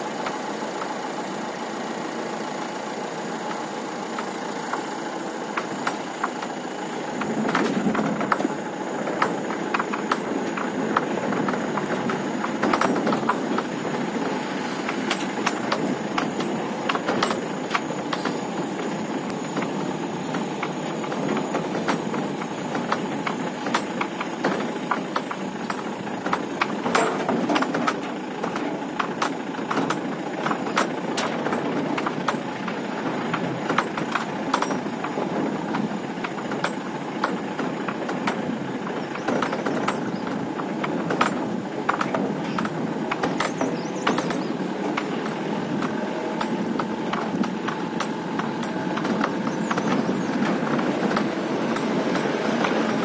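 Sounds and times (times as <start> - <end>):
vehicle engine and road noise: 0.0 - 53.0
vehicle body knocking and rattling: 3.4 - 53.0.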